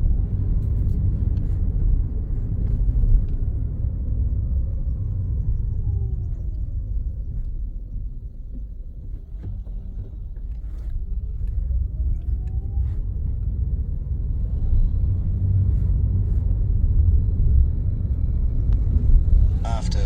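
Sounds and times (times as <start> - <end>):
car engine rumbling: 0.0 - 20.0
road noise: 0.0 - 20.0.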